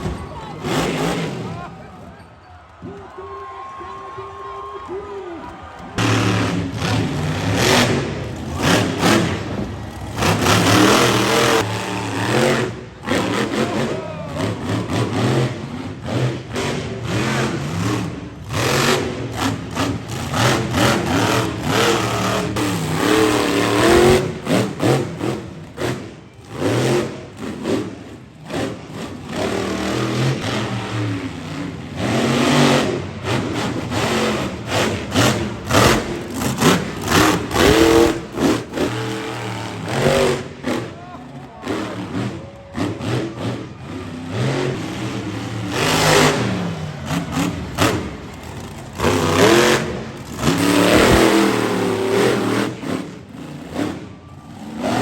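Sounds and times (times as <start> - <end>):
monster truck engine revving: 0.0 - 3.2, 5.5 - 55.0.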